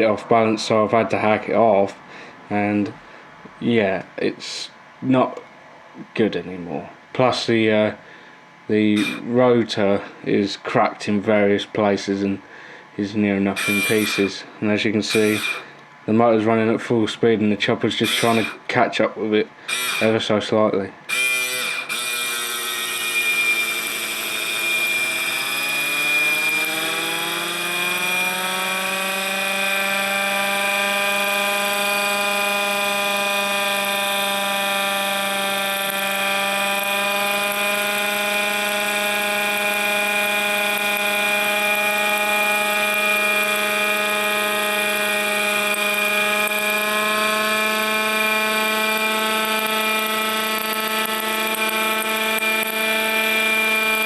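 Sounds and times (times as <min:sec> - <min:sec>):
constant high whine: 0:00.0 - 0:54.0.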